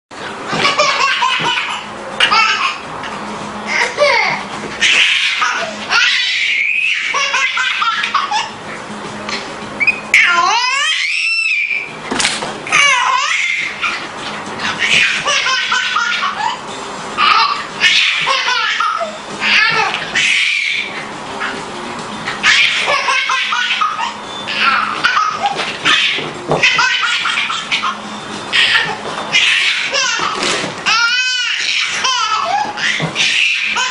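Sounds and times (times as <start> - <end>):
baby laughing: 0.5 - 2.9, 3.7 - 8.6, 12.7 - 21.6, 22.4 - 33.9.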